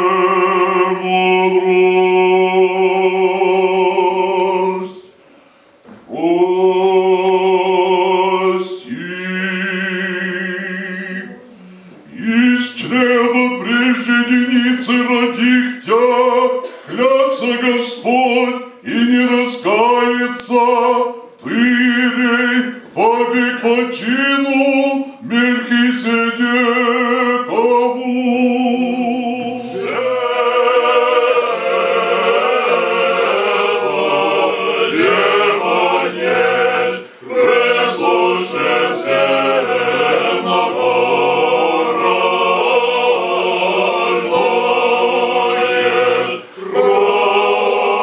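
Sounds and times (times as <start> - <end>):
choir singing chant a cappella: 0.0 - 5.2, 5.9 - 48.0.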